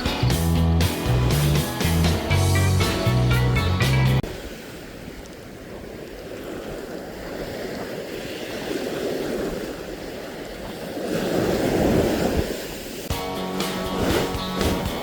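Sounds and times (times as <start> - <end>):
surf washing onto sandy beach: 0.0 - 15.0.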